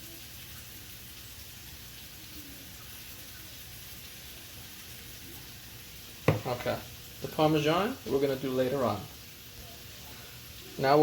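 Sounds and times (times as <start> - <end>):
butter and garlic sizzling in pan: 0.0 - 11.0.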